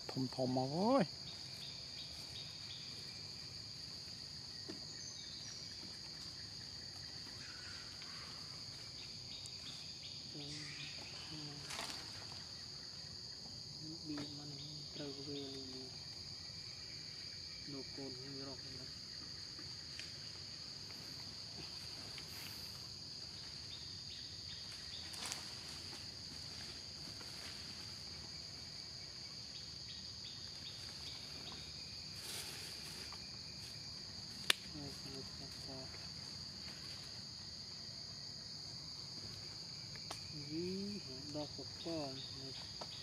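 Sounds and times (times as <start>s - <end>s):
insects shrilling: 0.0s - 37.9s.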